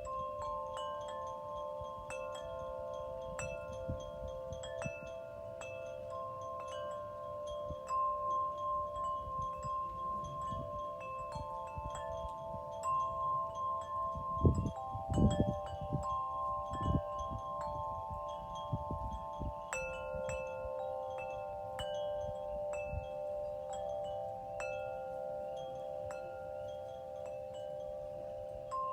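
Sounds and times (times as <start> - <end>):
wind chimes ringing: 0.0 - 28.9.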